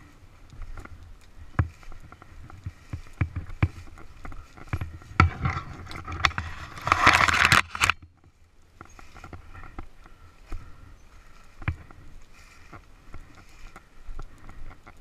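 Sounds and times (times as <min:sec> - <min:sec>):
branches scraping across camera: 0:00.0 - 0:15.0.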